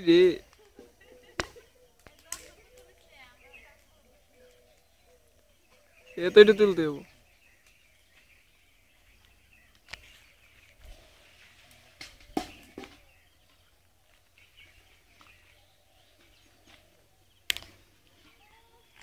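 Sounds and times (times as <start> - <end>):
rustles: 0.0 - 19.0
faint bird chirps: 0.1 - 19.0.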